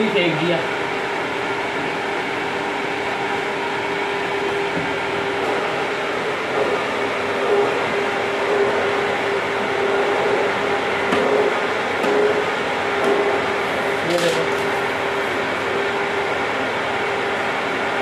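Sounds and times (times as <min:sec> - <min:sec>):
exhaust fan air rush: 0:00.0 - 0:18.0
fan motor hum: 0:00.0 - 0:18.0.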